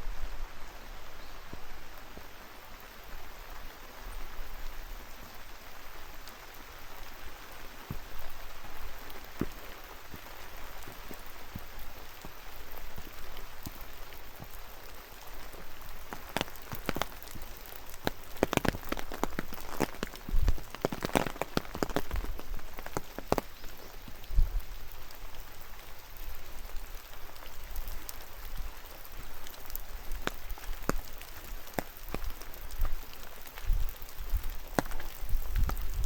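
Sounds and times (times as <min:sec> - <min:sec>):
rain falling in forest: 0:00.0 - 0:36.0.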